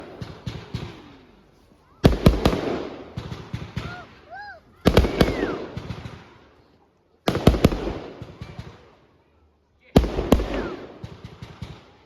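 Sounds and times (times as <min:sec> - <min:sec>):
fireworks banging: 0:00.0 - 0:06.7, 0:07.3 - 0:09.1, 0:10.0 - 0:12.0
fireworks crackling: 0:00.0 - 0:09.2, 0:09.9 - 0:12.0.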